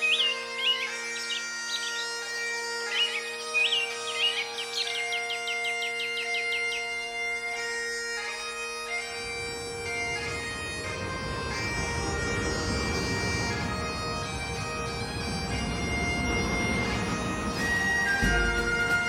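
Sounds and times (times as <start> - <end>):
bagpipe music: 0.0 - 19.0.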